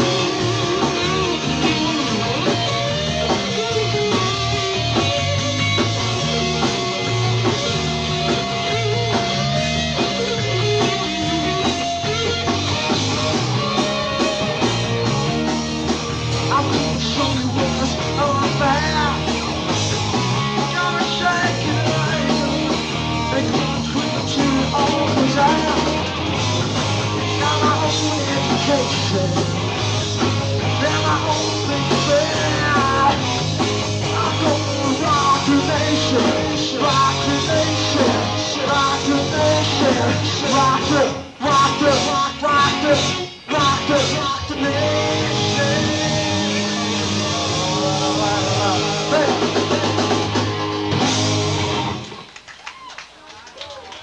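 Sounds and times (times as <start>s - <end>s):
electric guitar bending lead notes: 0.0s - 52.3s
rock band playing live: 0.0s - 52.9s.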